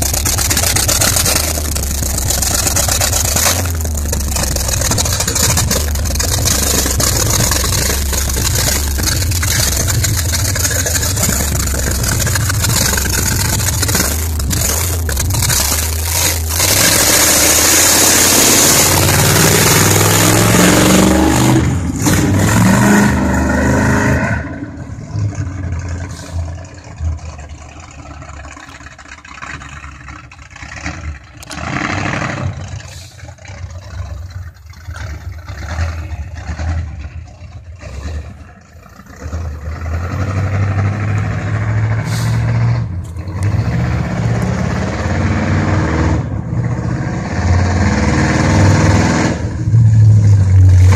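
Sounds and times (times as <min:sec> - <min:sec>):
car engine revving hard: 0:00.0 - 0:26.6, 0:30.6 - 0:33.1, 0:37.8 - 0:50.9
deep engine rumble: 0:00.0 - 0:50.9.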